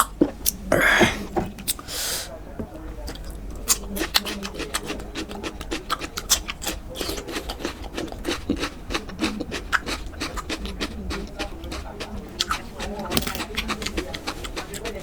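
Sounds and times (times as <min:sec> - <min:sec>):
wet chewing and mouth clicks: 0:00.0 - 0:01.9, 0:03.0 - 0:15.0.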